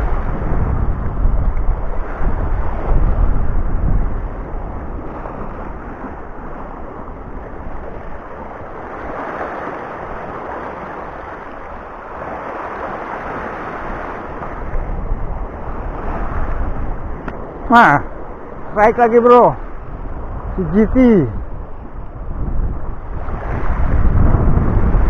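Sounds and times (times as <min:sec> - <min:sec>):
sea waves washing over rocks: 0:00.0 - 0:25.0
wind buffeting the microphone: 0:00.0 - 0:25.0.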